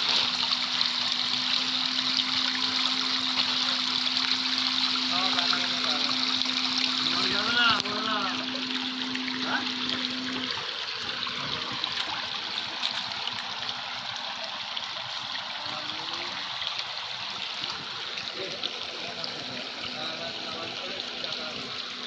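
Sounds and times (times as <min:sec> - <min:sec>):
fountain water trickling and splashing: 0:00.0 - 0:22.0.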